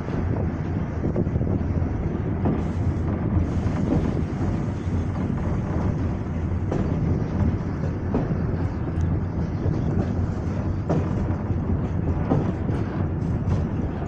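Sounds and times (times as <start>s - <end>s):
train running gear rumbling: 0.0s - 14.0s
wind buffeting microphone: 0.0s - 14.0s.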